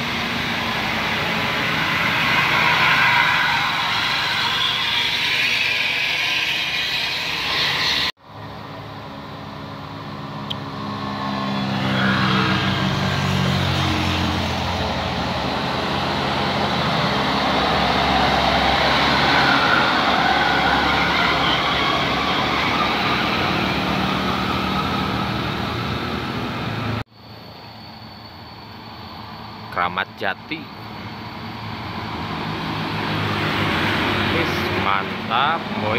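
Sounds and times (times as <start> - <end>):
bus engine driving past: 0.0 - 35.9
traffic noise: 0.0 - 35.9.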